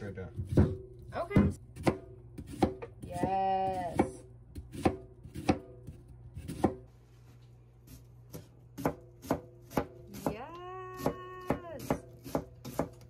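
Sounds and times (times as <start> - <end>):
knife chopping on cutting board: 0.4 - 6.8, 7.9 - 10.4, 11.0 - 13.0.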